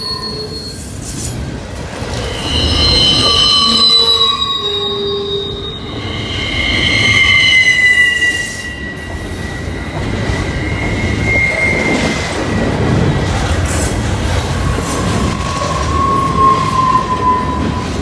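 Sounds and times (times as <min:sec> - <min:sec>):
train rumble: 0:00.0 - 0:18.0
train wheels squealing: 0:00.0 - 0:18.0.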